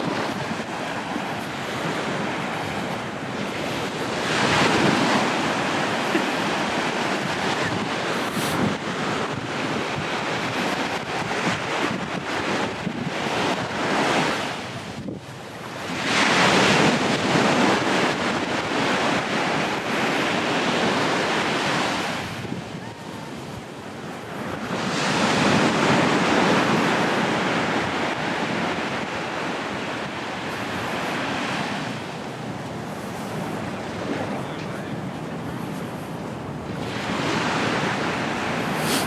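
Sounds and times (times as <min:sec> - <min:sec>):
sea waves breaking on beach: 0:00.0 - 0:39.0
wind on microphone: 0:00.0 - 0:39.0.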